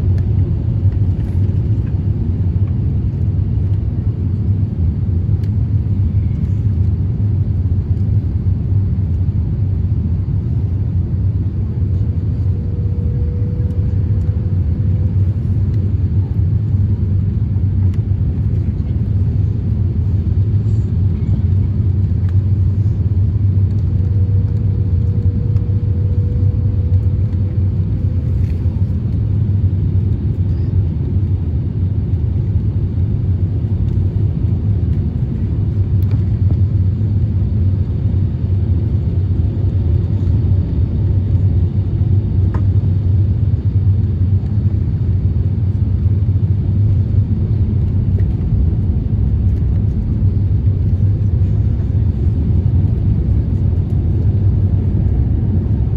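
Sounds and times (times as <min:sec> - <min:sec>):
airliner engine and airflow rumble: 0:00.0 - 0:55.9.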